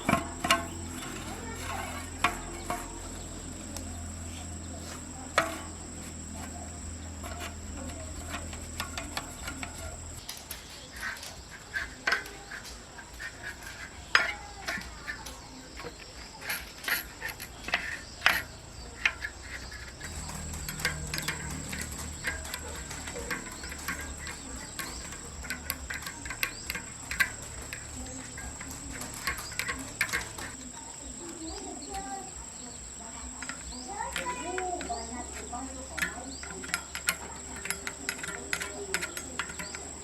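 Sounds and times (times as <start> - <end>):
tools clinking on metal: 0.0 - 10.3, 12.0 - 40.0.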